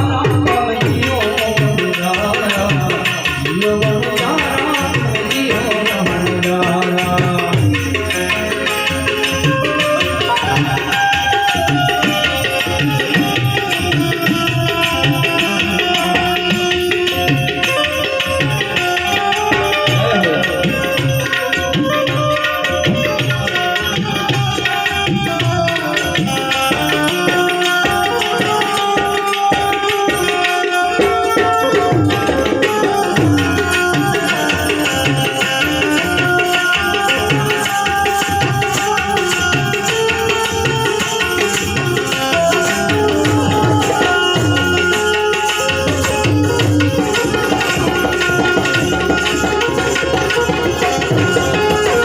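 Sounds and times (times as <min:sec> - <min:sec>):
harmonium melody: 0:00.0 - 0:52.0
tabla beat: 0:00.0 - 0:52.0.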